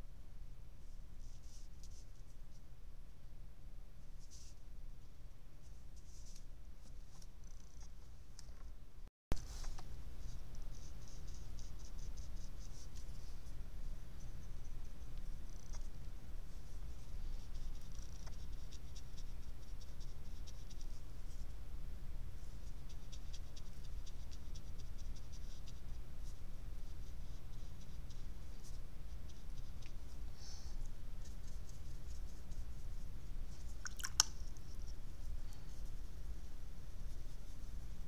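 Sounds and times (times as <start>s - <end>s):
low steady hum: 0.0s - 38.0s
brush strokes on paper: 0.8s - 2.7s, 4.1s - 8.2s, 9.4s - 21.6s, 22.3s - 38.0s.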